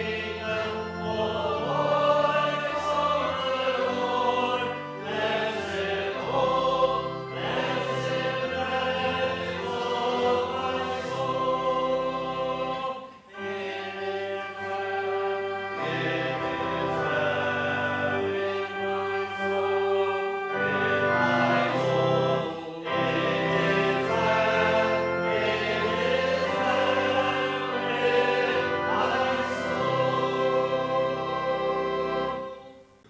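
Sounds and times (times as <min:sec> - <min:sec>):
choir singing a hymn: 0:00.0 - 0:33.0
organ chords: 0:00.0 - 0:33.0.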